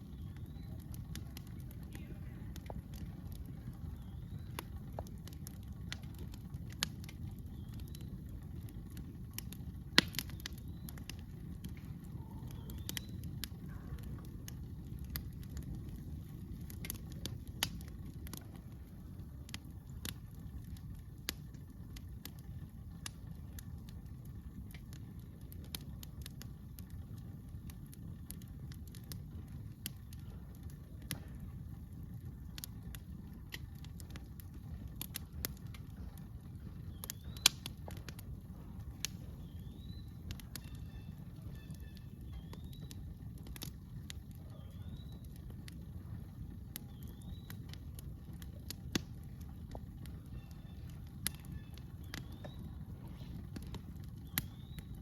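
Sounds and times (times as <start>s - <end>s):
campfire crackling: 0.0s - 55.0s
fire pop: 0.0s - 55.0s
low steady rumble: 0.0s - 55.0s.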